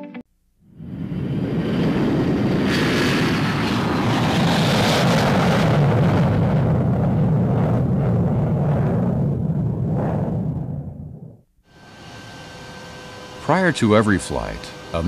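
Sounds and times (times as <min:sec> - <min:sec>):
low rumble: 0:00.6 - 0:12.7
jet aircraft engine rush: 0:00.7 - 0:15.0.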